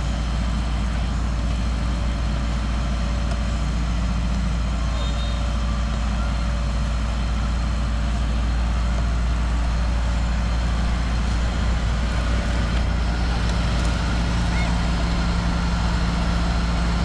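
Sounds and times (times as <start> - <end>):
diesel machinery engine rumble: 0.0 - 17.0.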